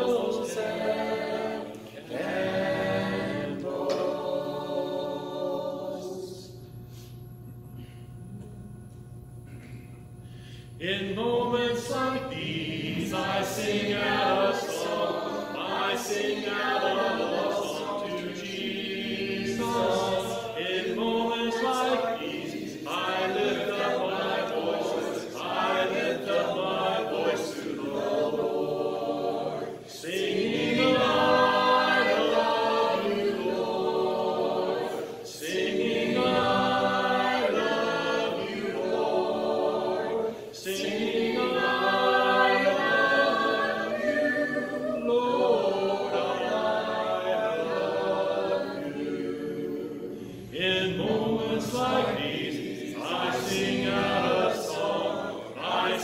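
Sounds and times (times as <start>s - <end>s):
group singing a hymn: 0.0s - 8.5s, 9.5s - 56.0s.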